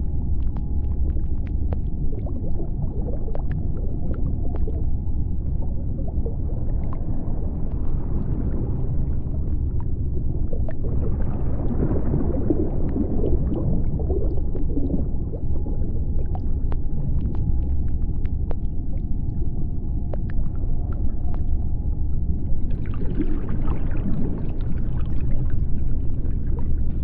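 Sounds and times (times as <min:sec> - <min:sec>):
deep underwater rumble: 0:00.0 - 0:27.0
gurgling water wash: 0:00.0 - 0:27.0.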